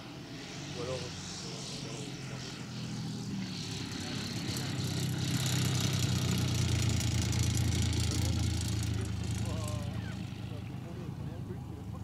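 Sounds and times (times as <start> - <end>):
model plane engine running: 0.0 - 12.0.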